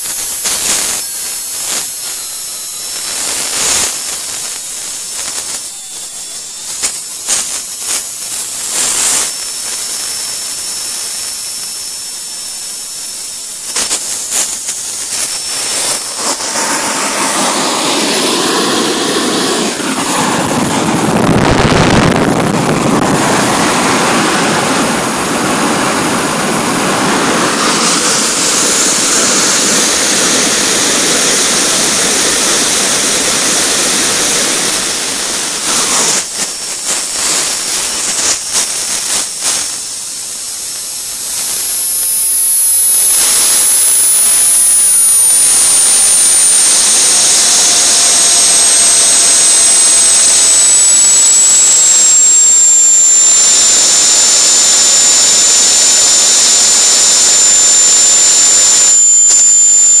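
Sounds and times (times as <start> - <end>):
high-pitched turbine whistle: 0.0 - 60.0
jet engine exhaust rushing: 0.0 - 60.0.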